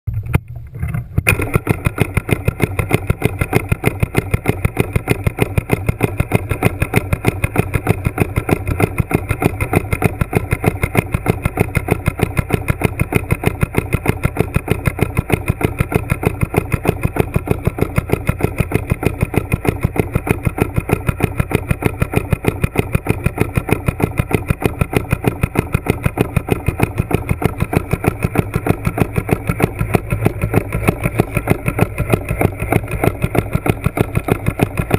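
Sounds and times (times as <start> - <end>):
underwater mechanical pulsing: 0.1 - 34.9.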